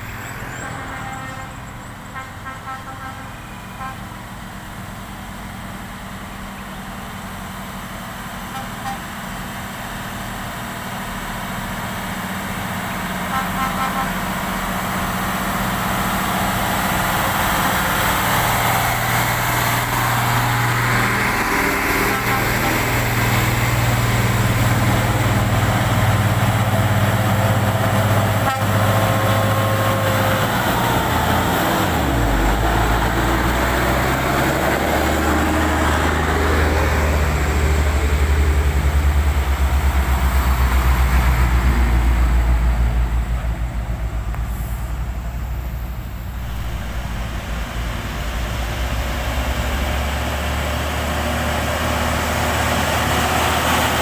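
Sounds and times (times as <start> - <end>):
heavy diesel trucks passing: 0.0 - 54.0.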